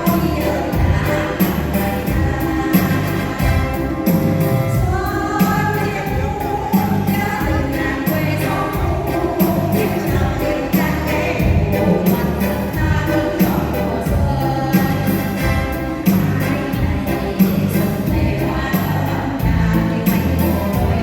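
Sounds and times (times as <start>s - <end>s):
backing track with steady beat: 0.0s - 21.0s
women singing together: 0.0s - 21.0s.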